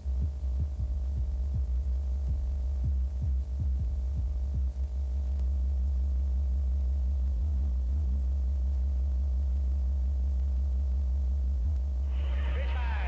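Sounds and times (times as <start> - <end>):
low electronic hum: 0.0 - 13.0.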